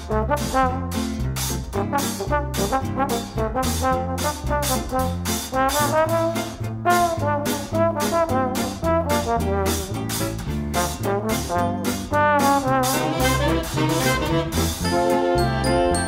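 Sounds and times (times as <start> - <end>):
upbeat music with brass: 0.0 - 16.0.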